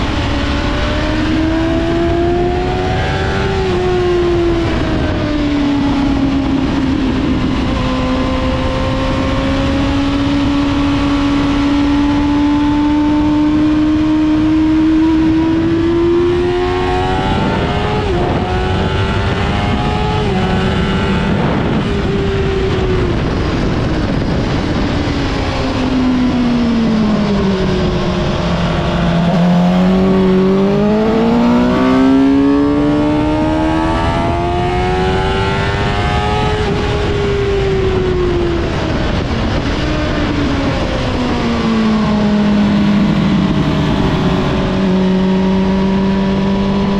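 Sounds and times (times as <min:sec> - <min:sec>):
motorcycle engine at high speed: 0:00.0 - 0:46.9
wind rush: 0:00.0 - 0:46.9.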